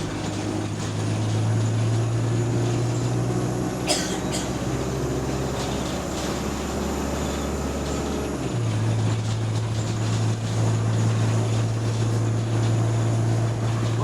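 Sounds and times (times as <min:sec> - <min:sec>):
bus engine revving: 0:00.0 - 0:14.0.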